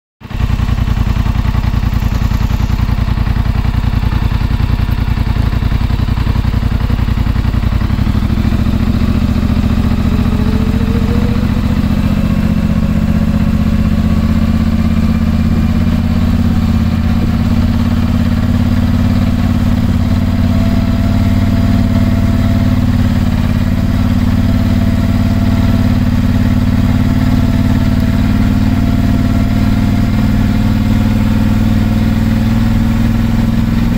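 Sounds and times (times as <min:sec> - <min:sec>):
atv engine running: 0:00.2 - 0:33.9.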